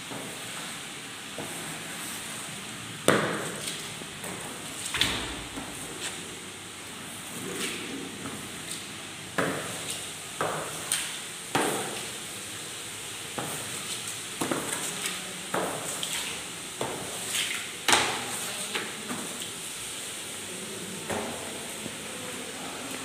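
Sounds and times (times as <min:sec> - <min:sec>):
push broom sweeping tiled floor: 0:00.0 - 0:23.0.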